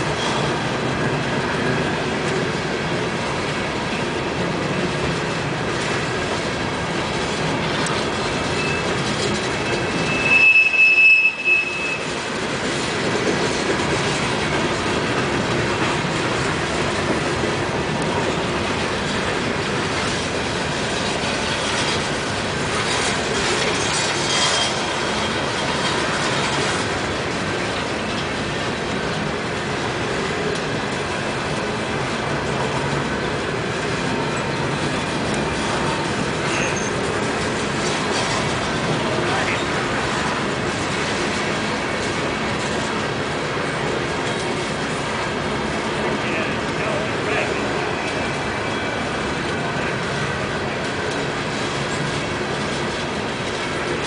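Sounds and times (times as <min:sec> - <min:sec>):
train wheels running on rails: 0:00.0 - 0:54.0.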